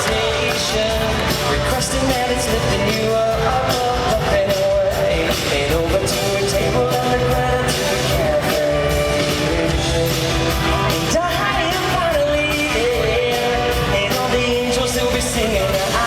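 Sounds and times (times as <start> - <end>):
live pop-rock band: 0.0 - 16.0
man singing: 0.0 - 16.0.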